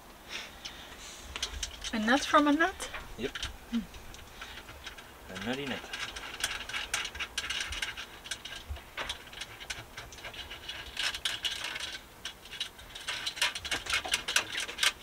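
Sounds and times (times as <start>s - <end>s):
small metallic clicks and rubbing: 0.6s - 15.0s.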